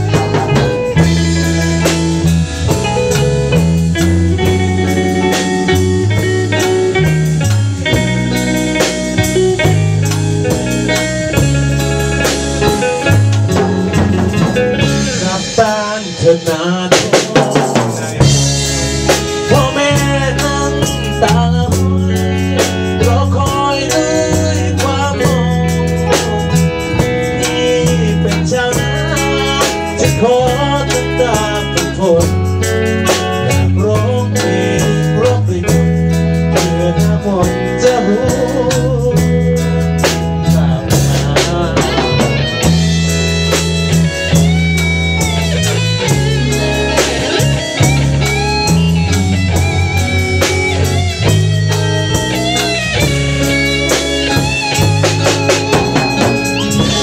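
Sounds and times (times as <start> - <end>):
bass guitar: 0.0 - 57.0
drum kit beat: 0.0 - 57.0
electric guitars: 0.0 - 57.0.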